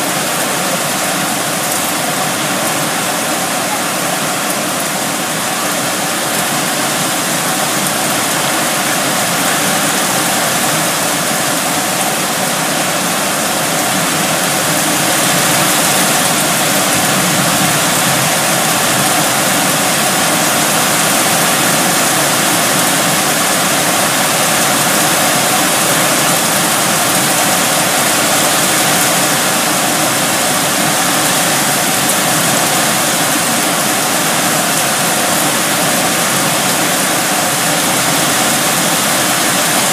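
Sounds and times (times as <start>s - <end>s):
heavy rain in strong wind: 0.0s - 39.9s.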